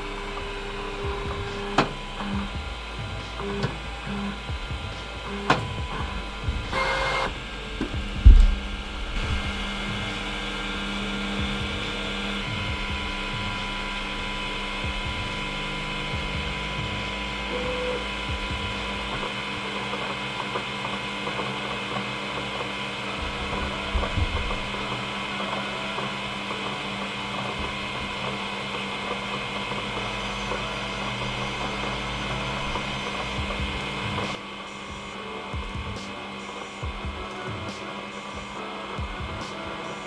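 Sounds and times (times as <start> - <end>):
printer stepper motors humming: 0.0 - 40.0.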